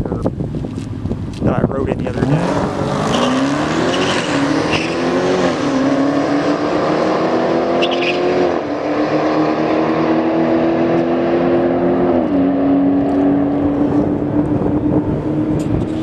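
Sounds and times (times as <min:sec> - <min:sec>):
car engine running loudly: 0:01.8 - 0:16.0.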